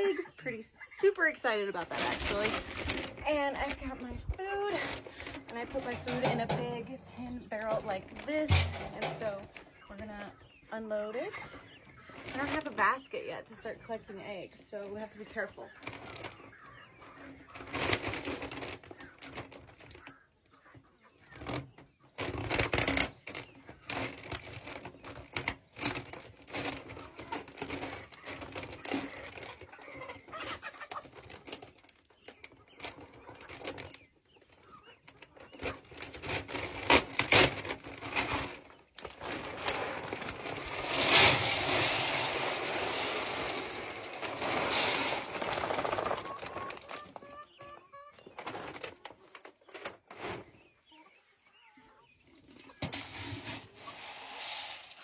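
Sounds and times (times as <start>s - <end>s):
chickens clucking: 0.0s - 55.0s
clatter and rustle of chores: 0.0s - 55.0s.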